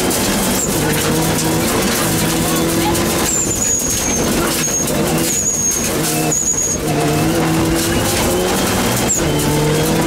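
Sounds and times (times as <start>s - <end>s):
car engine running hard: 0.0s - 10.0s.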